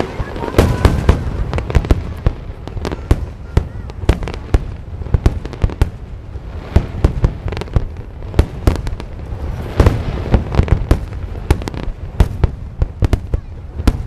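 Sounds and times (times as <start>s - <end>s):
fireworks bursting with sharp bangs: 0.0s - 14.0s
low rumble of explosions: 0.0s - 14.0s.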